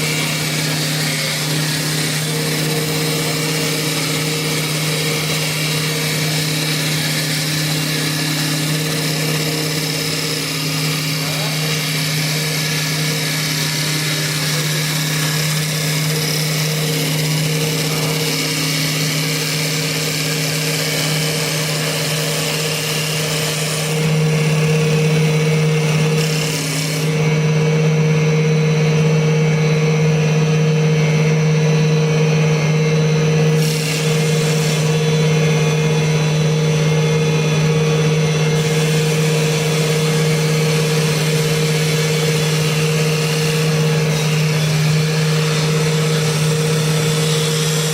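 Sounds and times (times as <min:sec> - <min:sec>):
cutter working spinning wood: 0:00.0 - 0:47.9
wood lathe motor hum: 0:00.0 - 0:47.9.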